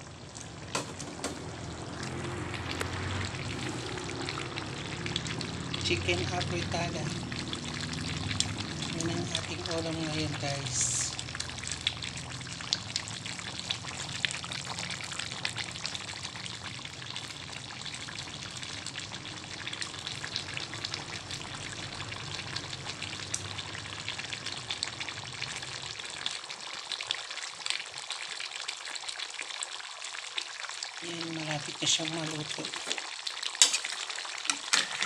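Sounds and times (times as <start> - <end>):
sauce bubbling and sizzling: 0.0 - 35.0.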